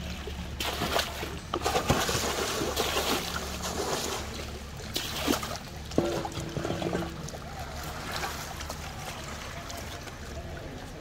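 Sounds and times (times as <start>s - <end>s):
fish thrashing in water: 0.0s - 10.3s
water splashing and dripping: 0.0s - 11.0s.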